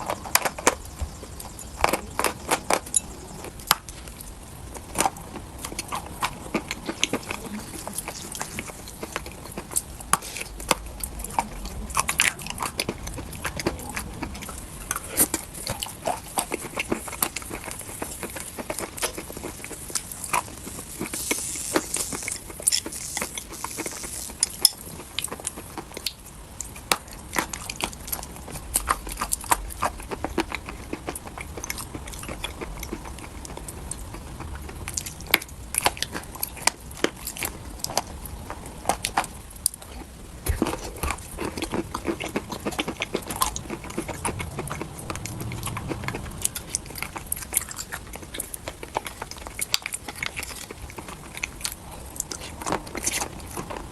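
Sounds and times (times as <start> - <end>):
chalk being chewed: 0.0 - 53.9.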